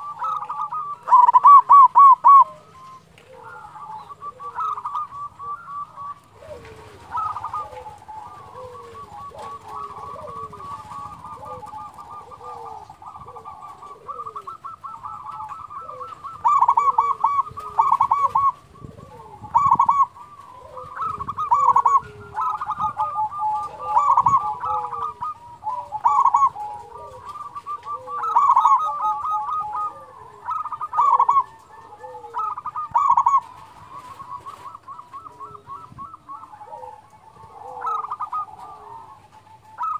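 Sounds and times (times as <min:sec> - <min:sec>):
dove cooing: 0:00.0 - 0:39.9
soft falling bird notes: 0:00.0 - 0:39.9.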